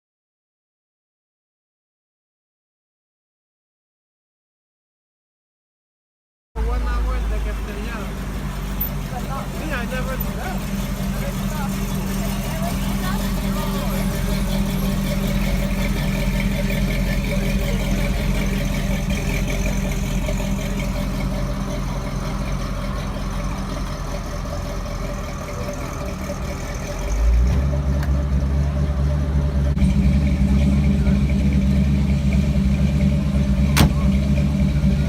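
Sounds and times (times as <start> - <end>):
car engine running: 6.6 - 35.0.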